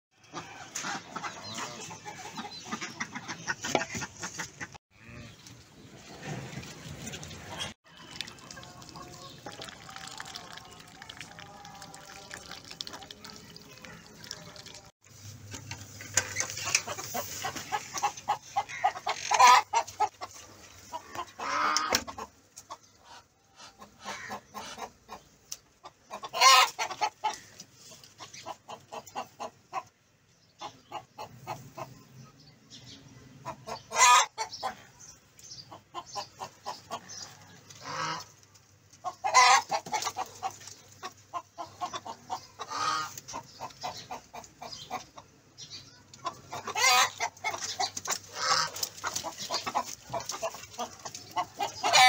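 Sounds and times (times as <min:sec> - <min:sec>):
chickens clucking: 0:00.2 - 0:52.0.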